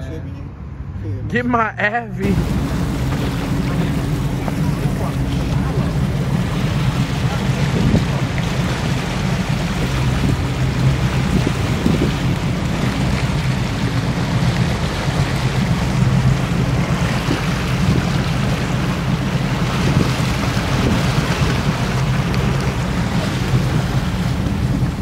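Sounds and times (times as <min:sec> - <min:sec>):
rushing water: 0:01.5 - 0:25.0
motorboat engine drone: 0:02.1 - 0:25.0
wind buffeting microphone: 0:02.2 - 0:25.0.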